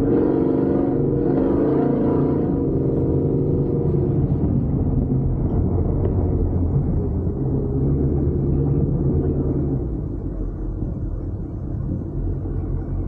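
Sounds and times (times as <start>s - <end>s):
pickup engine rumbling: 0.0s - 13.0s.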